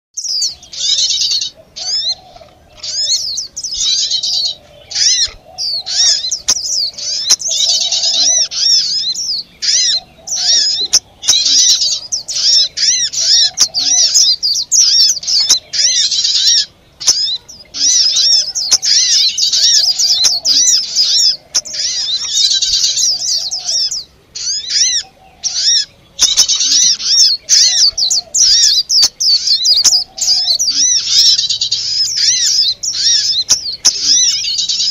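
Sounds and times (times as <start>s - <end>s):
low-pitched bird call: 0.2s - 34.9s
small birds chattering and chirping: 0.2s - 34.9s.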